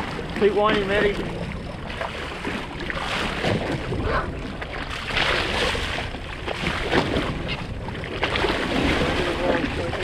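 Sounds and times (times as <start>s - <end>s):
water splashing against boat hull: 0.0s - 10.0s
wind buffeting microphone: 0.0s - 10.0s.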